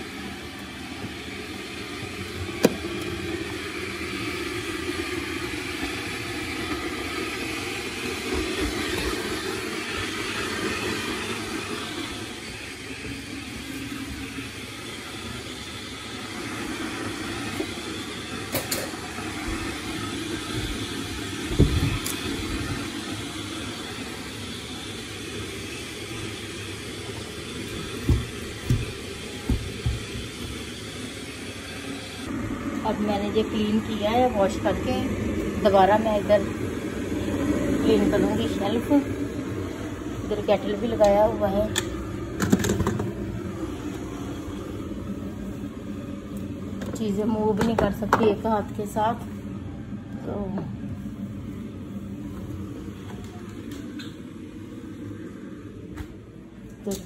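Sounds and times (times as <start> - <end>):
electric kettle heating water: 0.0 - 57.0.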